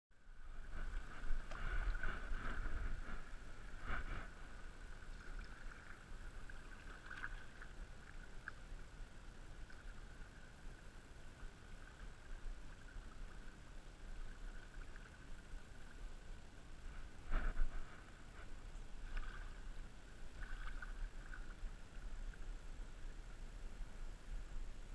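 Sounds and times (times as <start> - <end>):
rippling and trickling water: 0.2 - 24.9
paddle strokes splashing: 0.5 - 16.1, 16.8 - 22.6.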